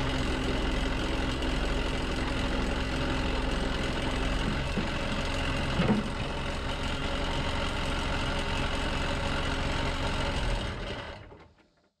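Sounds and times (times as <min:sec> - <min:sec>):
diesel engine idling: 0:00.0 - 0:11.2.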